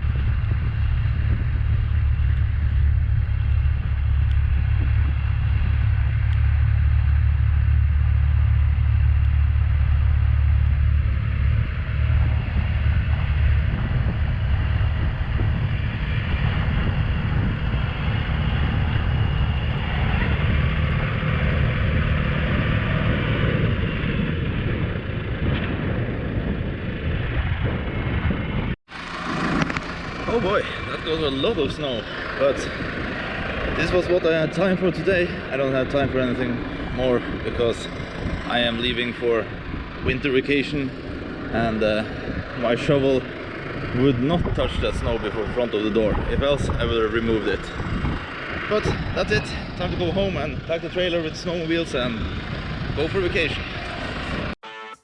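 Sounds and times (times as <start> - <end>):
tractor engine rumbling: 0.0 - 54.6.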